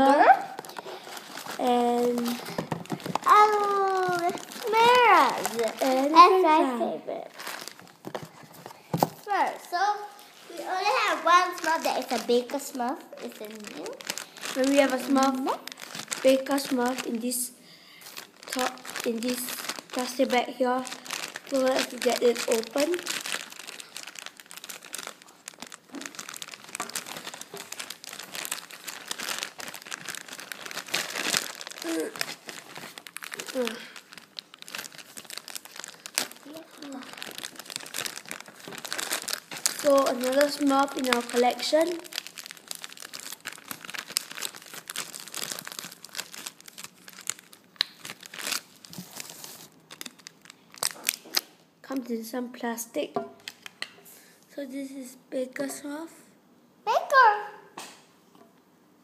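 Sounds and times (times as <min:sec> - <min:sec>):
plastic bag crinkling: 0:00.0 - 0:51.5.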